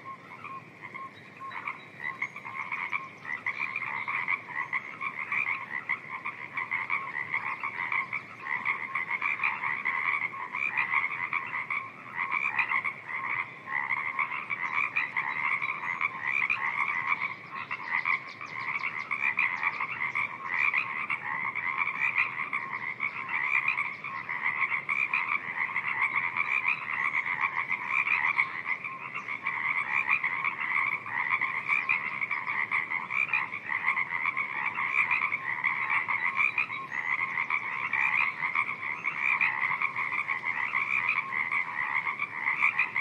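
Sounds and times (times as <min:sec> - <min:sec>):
chorus of frogs croaking: 0:00.0 - 0:43.0.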